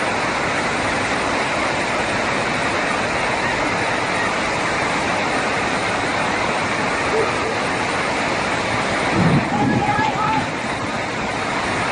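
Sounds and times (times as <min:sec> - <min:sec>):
floodwater rushing: 0:00.0 - 0:11.9.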